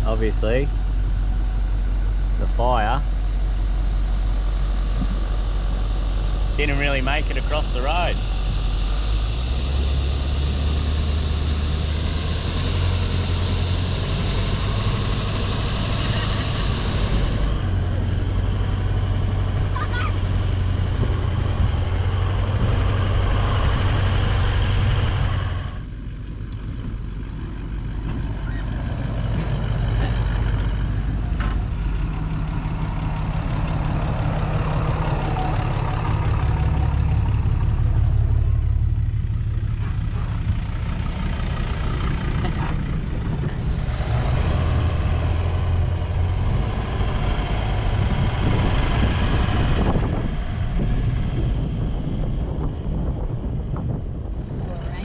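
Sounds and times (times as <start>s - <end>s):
car engine drone: 0.0s - 55.0s
road rumble: 0.0s - 55.0s.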